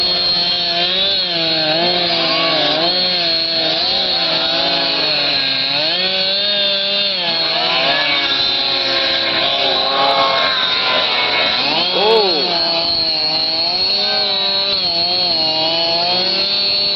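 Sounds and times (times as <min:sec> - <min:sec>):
snowmobile engine revving: 0:00.0 - 0:16.9.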